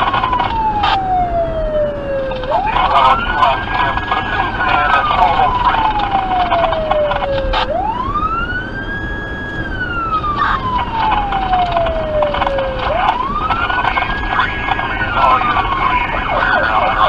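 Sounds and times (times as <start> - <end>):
electronic siren wailing: 0.0 - 17.0
road rumble: 0.0 - 17.0.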